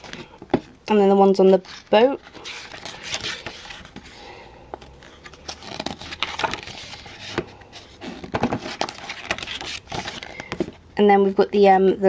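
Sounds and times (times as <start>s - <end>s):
pages rustling and turning: 0.0s - 0.7s, 1.5s - 10.8s.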